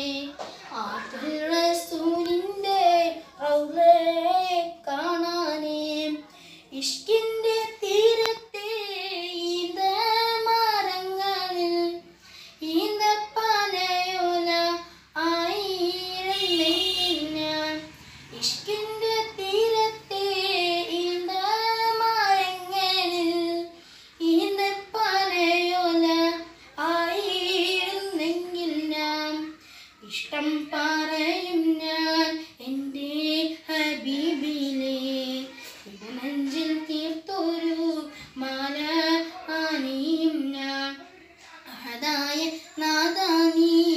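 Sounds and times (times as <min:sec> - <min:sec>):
boy singing unaccompanied: 0:00.0 - 0:43.9.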